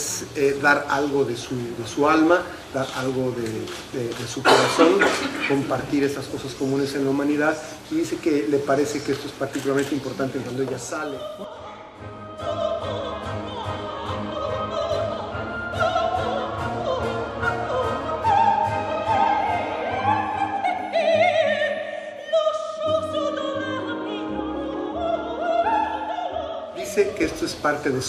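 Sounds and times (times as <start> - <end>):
operatic soprano singing: 0.0 - 28.0.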